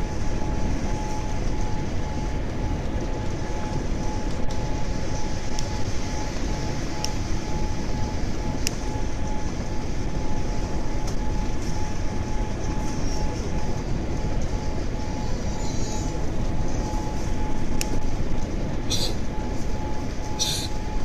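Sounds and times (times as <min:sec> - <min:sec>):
aircraft cabin rumble: 0:00.0 - 0:21.0.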